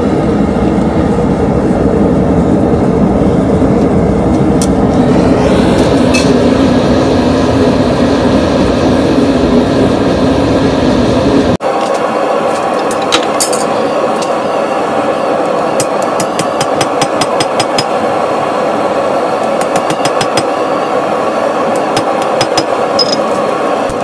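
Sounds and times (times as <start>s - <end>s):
steady rushing roar: 0.0s - 24.0s.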